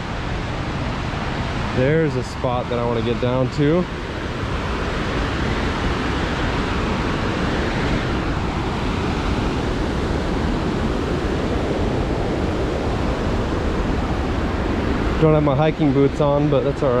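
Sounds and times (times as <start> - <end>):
creek whitewater rushing: 0.0 - 17.0.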